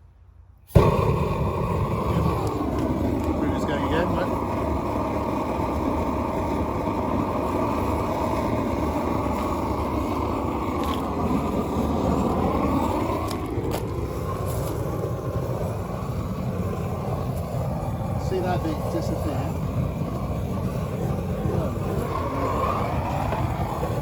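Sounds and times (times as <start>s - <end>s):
torch flame rushing: 0.7s - 24.0s.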